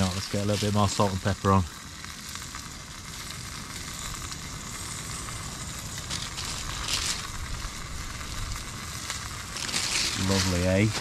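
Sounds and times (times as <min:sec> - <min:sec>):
food sizzling in oil: 0:00.0 - 0:11.0
sharp hisses: 0:00.0 - 0:11.0.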